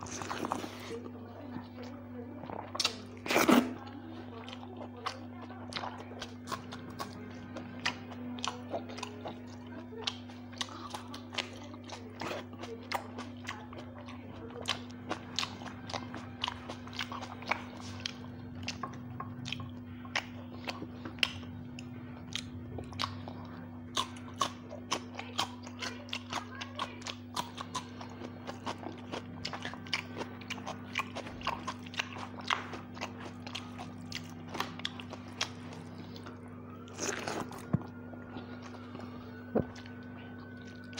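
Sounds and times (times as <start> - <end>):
chewing and crunching: 0.0 - 40.9.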